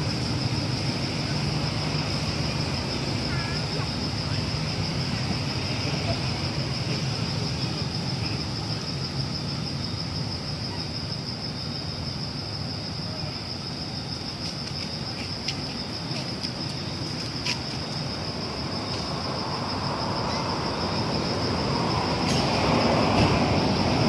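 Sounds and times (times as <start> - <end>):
insects droning high tone: 0.0 - 24.0.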